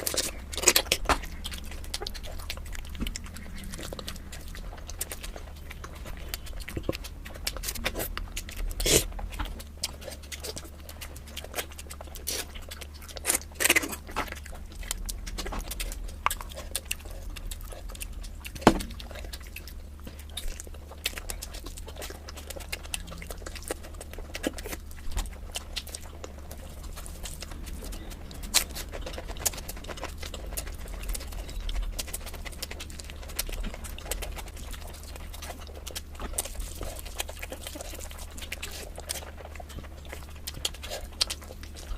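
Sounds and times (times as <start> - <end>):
chewing with wet mouth clicks: 0.0 - 41.9
steady low hum: 0.0 - 41.9.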